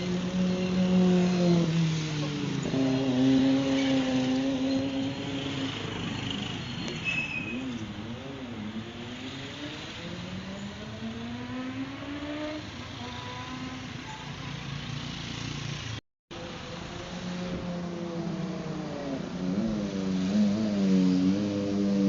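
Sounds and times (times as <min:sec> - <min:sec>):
vehicle engine revving: 0:00.0 - 0:13.9, 0:16.6 - 0:22.0.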